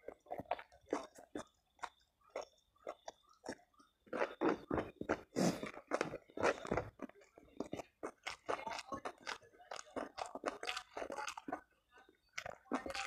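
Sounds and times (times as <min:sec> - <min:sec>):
wet chewing mouth sounds: 0:00.0 - 0:13.0.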